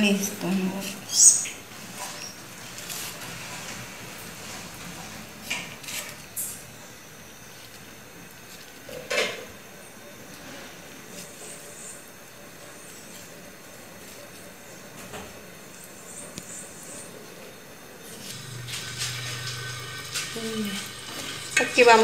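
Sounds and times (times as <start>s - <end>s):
potatoes being peeled by hand: 0.0s - 17.4s, 18.0s - 22.0s.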